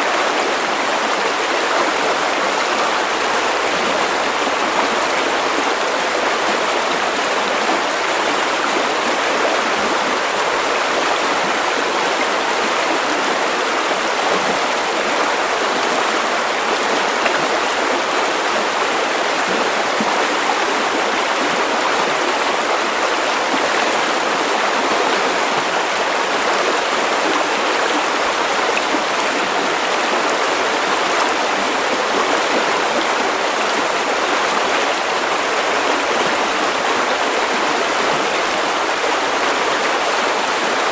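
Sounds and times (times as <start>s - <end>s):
river water over stones: 0.0s - 40.9s.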